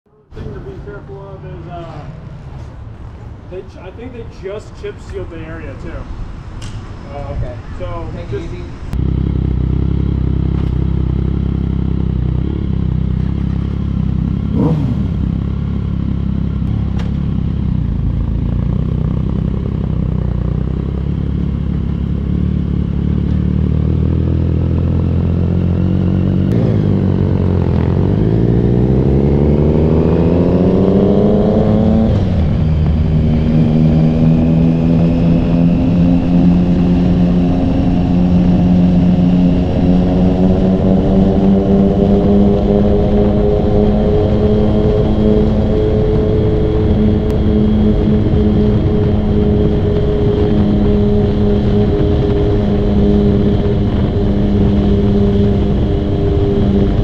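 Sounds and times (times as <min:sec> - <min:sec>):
motorcycle engine idling and revving: 0:00.1 - 0:57.0
motorcycle pulling away: 0:09.0 - 0:57.0.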